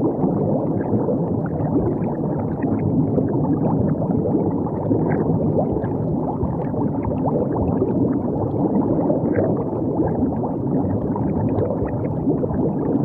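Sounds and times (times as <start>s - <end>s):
liquid bubbling and gurgling: 0.0s - 13.0s.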